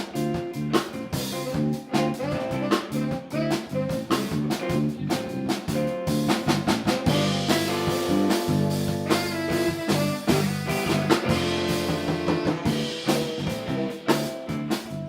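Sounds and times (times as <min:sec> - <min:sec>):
drum kit beat: 0:00.0 - 0:15.0
electric guitar notes: 0:00.0 - 0:15.0.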